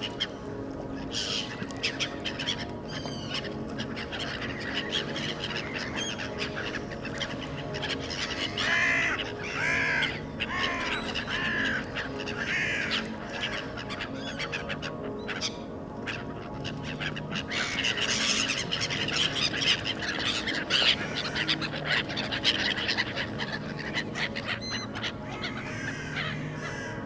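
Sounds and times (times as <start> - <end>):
harsh bird calls: 0.0 - 27.0.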